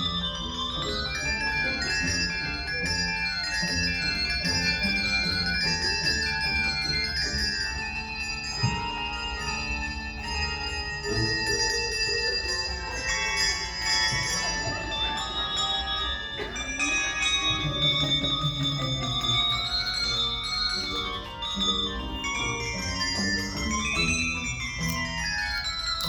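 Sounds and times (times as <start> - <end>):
deep bass bells: 0.0 - 26.0
handbell choir ringing: 0.0 - 26.0.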